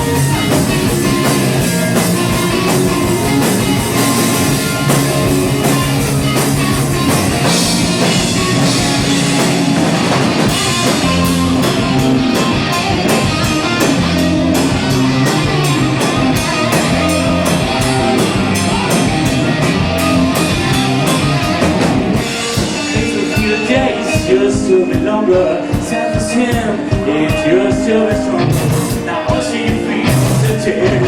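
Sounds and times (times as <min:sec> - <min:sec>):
bass guitar: 0:00.0 - 0:31.0
drum kit beat: 0:00.0 - 0:31.0
electric guitar: 0:00.0 - 0:31.0
live rock band playing: 0:00.0 - 0:31.0.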